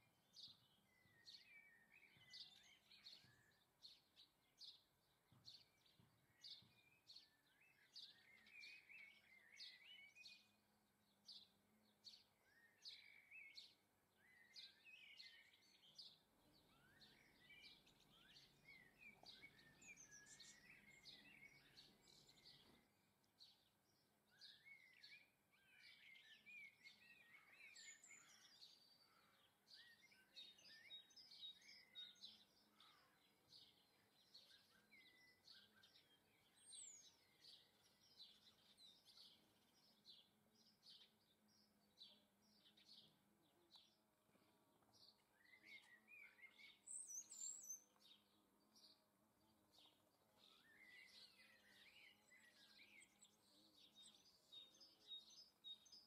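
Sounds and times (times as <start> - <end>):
songbirds chirping and twittering: 0.0 - 56.0.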